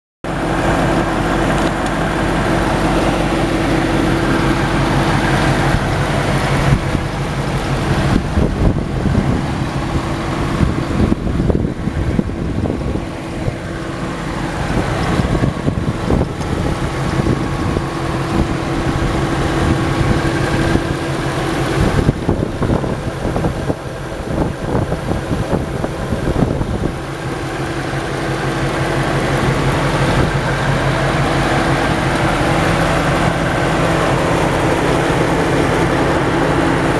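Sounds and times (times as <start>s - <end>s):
car engine idling: 0.2s - 36.9s.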